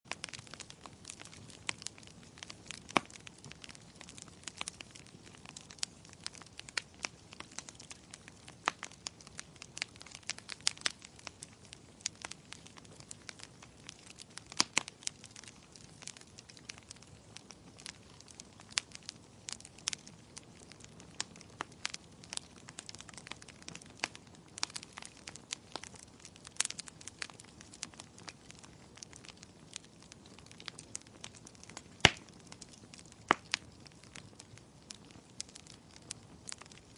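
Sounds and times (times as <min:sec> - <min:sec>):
wood fire crackling: 0:00.1 - 0:36.9.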